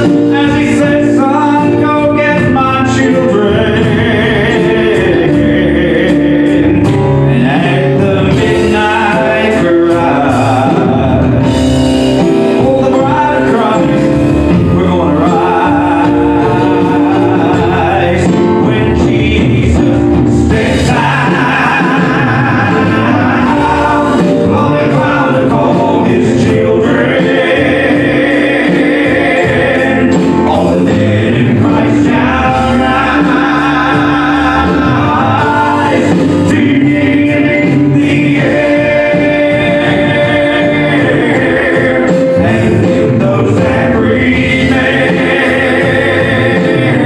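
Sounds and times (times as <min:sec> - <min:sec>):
acoustic guitar: 0:00.0 - 0:47.0
drums: 0:00.0 - 0:47.0
keyboard: 0:00.0 - 0:47.0
men singing gospel: 0:00.0 - 0:47.0.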